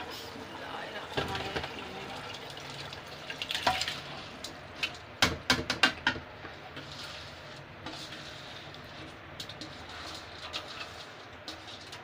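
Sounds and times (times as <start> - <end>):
boiling water bubbling: 0.0 - 5.2, 6.0 - 12.0.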